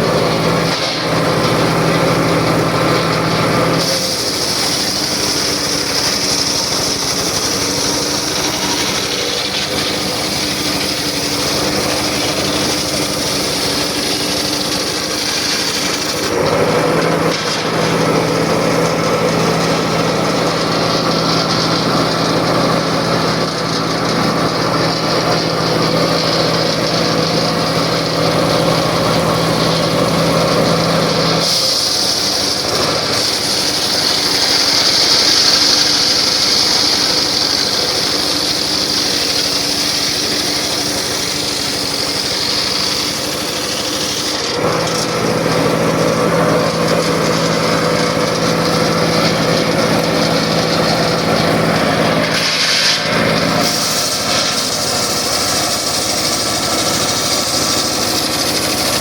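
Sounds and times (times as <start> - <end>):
circular saw cutting wood: 0.0 - 59.0.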